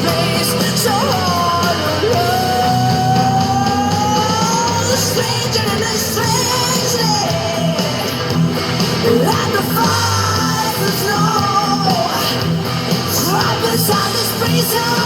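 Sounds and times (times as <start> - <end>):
rock song with singing: 0.0 - 15.0.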